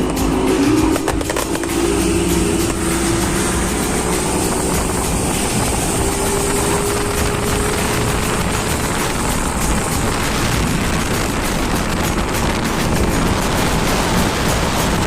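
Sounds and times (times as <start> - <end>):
heavy wind: 0.0 - 15.0
outboard motor running: 0.0 - 15.0
water rushing: 0.0 - 15.0.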